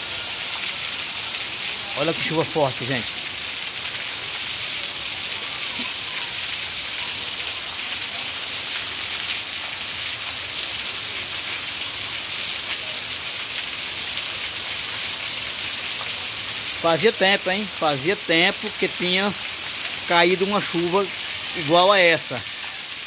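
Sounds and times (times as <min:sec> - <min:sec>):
heavy rain on street and roof: 0:00.0 - 0:23.0.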